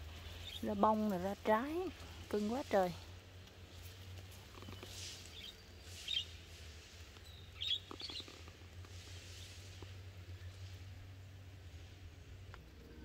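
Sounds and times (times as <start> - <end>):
small birds chirping: 0.0 - 10.8
low steady hum: 0.0 - 13.0.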